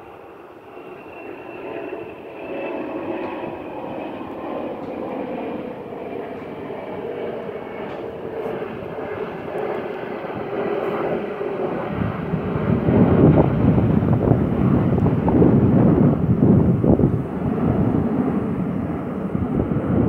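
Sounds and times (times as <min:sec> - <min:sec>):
jet engines with high whine: 0:00.0 - 0:20.0.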